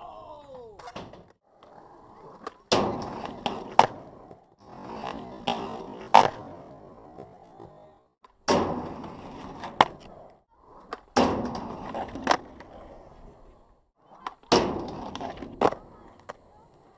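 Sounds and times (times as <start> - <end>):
skateboard wheels rolling on concrete: 0.0 - 16.9
skateboard clacks: 0.8 - 13.0, 14.1 - 16.9
skateboard trucks grinding on ledge: 0.8 - 16.8.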